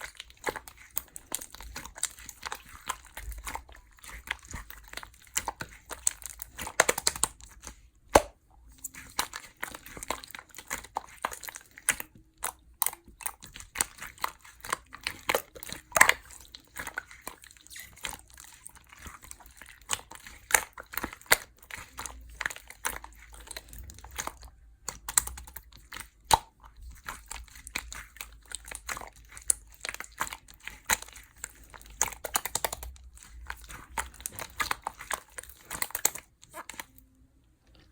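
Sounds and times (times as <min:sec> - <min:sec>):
slime squished by hand: 0:00.0 - 0:37.1.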